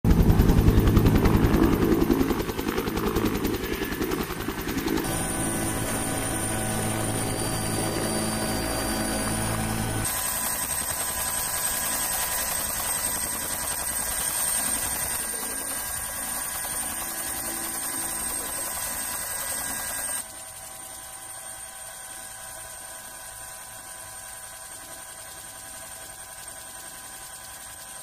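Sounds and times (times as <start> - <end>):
helicopter turbine and rotor noise: 0.1 - 28.0.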